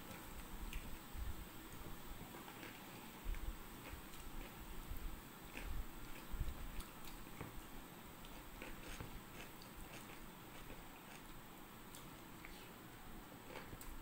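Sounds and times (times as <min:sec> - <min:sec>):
chewing and mouth sounds: 0:01.7 - 0:14.0
fingers mixing food on plate: 0:01.7 - 0:14.0.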